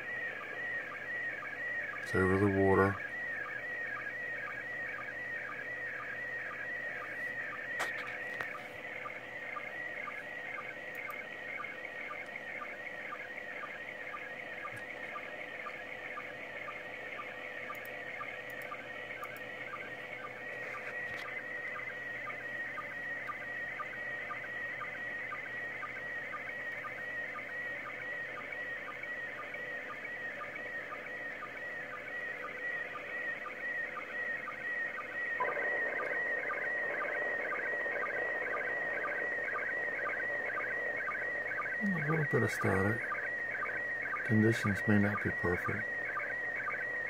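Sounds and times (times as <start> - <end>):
warbling signal tones: 0.0 - 47.0.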